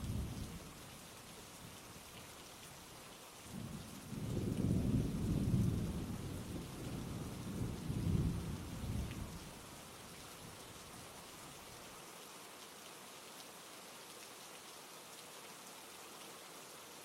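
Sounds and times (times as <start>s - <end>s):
rain falling on forest: 0.0s - 17.0s.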